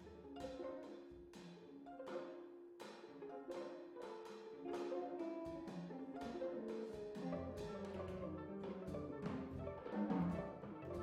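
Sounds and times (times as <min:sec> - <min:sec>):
chamber ensemble playing classical music: 0:00.0 - 0:11.0.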